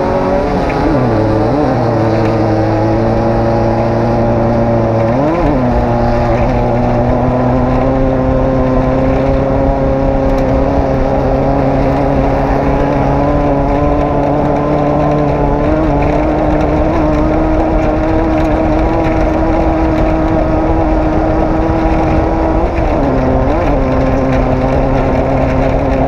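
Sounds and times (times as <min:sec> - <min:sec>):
race vehicle engine revving: 0:00.0 - 0:26.0.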